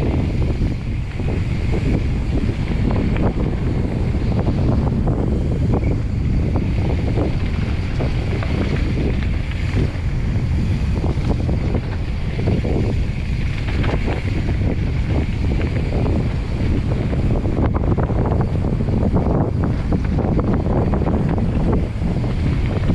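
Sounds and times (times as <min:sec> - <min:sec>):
bike clacking and rattling: 0:00.0 - 0:22.9
tyres rumbling on dirt trail: 0:00.0 - 0:22.9
wind rushing over microphone: 0:00.0 - 0:22.9.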